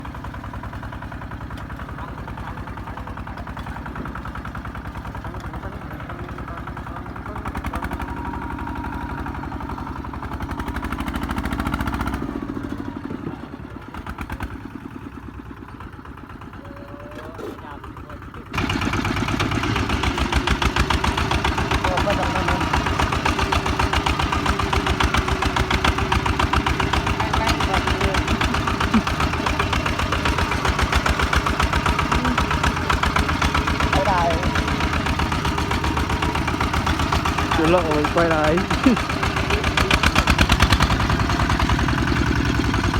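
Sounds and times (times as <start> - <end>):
diesel engine chugging: 0.0 - 42.9.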